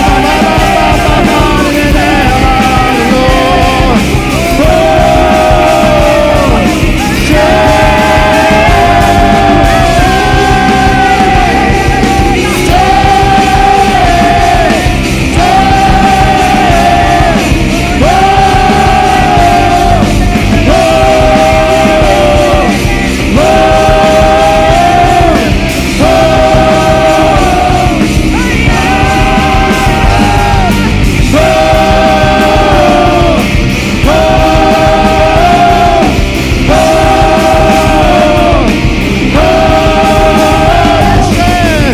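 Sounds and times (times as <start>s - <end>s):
band playing loud rock music: 0.0s - 41.9s.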